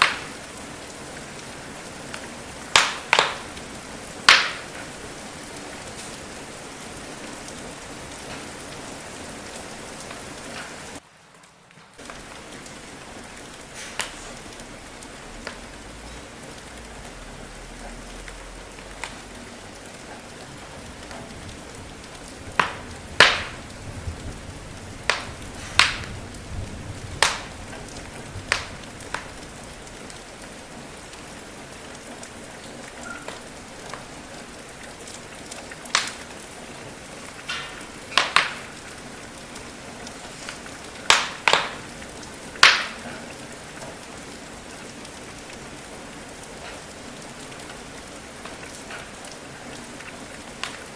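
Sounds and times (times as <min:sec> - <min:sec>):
steady rain: 0:00.0 - 0:50.9
wood fire crackling: 0:00.0 - 0:50.9.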